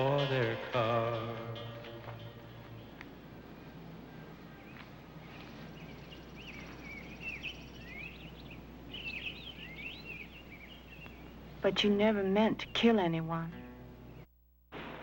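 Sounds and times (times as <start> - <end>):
birds chirping: 0.0 - 14.3
low steady background hiss: 0.0 - 15.0.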